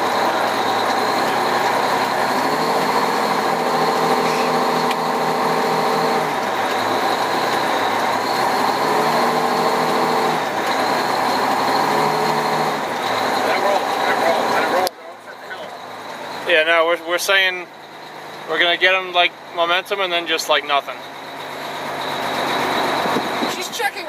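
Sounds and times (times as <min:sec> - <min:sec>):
fire engine idling: 0:00.0 - 0:24.0
pitched engine drone: 0:00.0 - 0:24.0.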